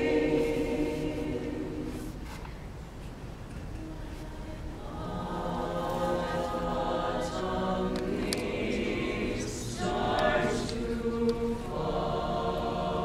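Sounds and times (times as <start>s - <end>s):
mixed choir singing: 0.0s - 2.4s, 3.8s - 13.0s.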